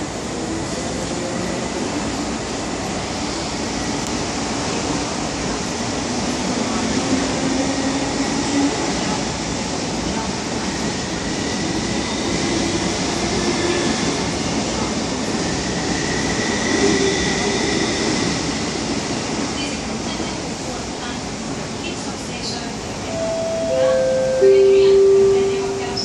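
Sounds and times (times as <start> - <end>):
electric train interior noise: 0.0 - 26.0.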